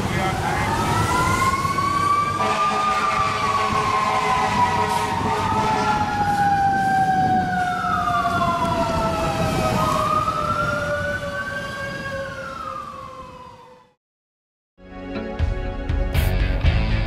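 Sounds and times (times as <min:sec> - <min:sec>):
low traffic rumble: 0:00.0 - 0:13.8
wailing siren: 0:00.0 - 0:14.0
siren with falling tone: 0:00.3 - 0:14.0.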